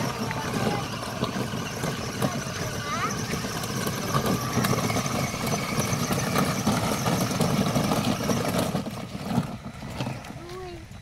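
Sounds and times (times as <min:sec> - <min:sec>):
electric motor whine: 0:00.0 - 0:11.0
plastic wheels rolling on gravel: 0:00.0 - 0:11.0.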